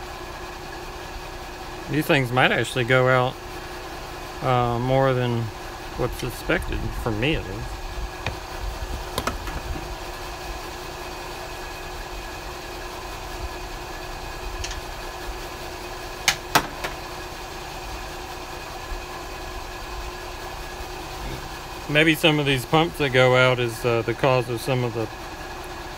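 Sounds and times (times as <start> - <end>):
machinery humming: 0.0 - 25.9.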